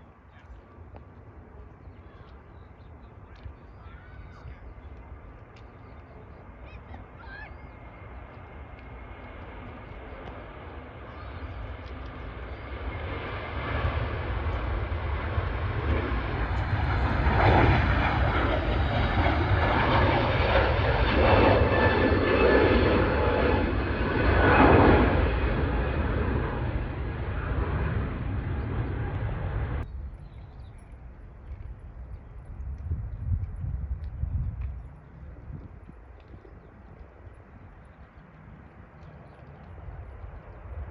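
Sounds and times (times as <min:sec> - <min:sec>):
airliner engine noise: 0:00.0 - 0:40.9.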